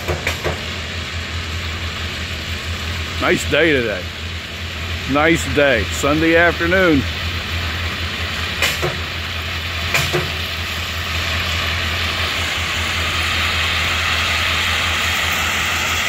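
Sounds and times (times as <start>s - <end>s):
diesel locomotive drone: 0.0s - 16.0s.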